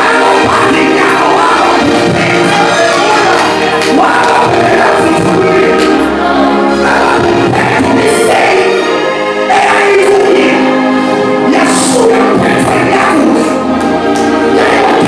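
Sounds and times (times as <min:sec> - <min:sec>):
gospel choir singing with instruments: 0:00.0 - 0:15.0.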